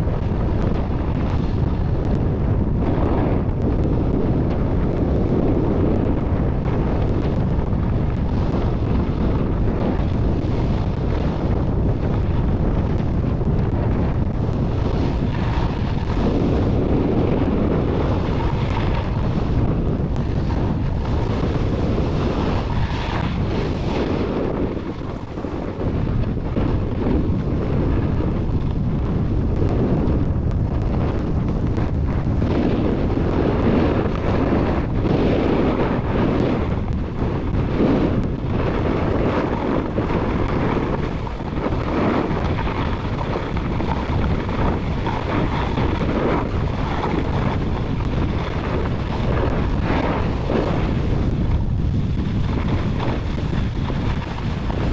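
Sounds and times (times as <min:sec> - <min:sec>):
skis scraping on snow: 0:00.0 - 0:54.9
wind rushing over microphone: 0:00.0 - 0:54.9.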